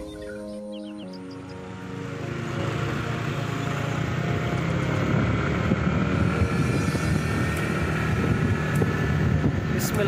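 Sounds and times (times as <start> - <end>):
road and wind noise: 0.0 - 10.0
motorcycle engine running: 1.4 - 10.0.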